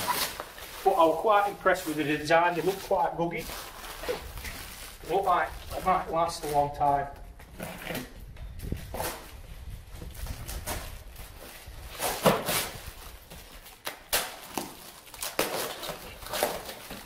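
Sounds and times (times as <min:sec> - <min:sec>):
cardboard and plastic ripping: 0:00.0 - 0:06.8, 0:07.5 - 0:09.4, 0:10.0 - 0:17.0.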